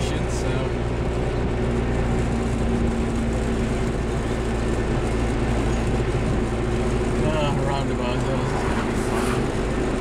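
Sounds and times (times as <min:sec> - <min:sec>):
engine droning while driving: 0:00.0 - 0:10.0.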